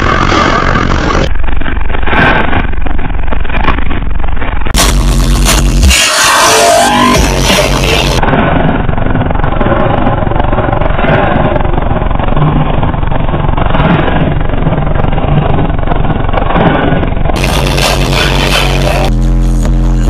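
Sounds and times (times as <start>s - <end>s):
distorted subwoofer bass rumble: 0.0s - 20.0s.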